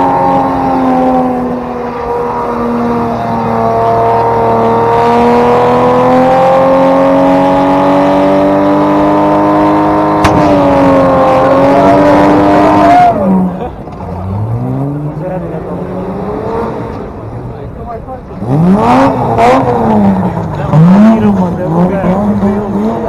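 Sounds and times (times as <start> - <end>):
car engine revving high: 0.0 - 23.0.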